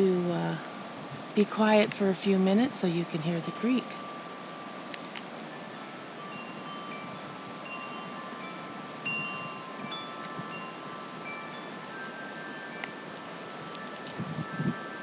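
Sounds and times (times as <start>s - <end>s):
creek water rushing: 0.0s - 14.1s
wind chimes ringing: 2.6s - 15.0s.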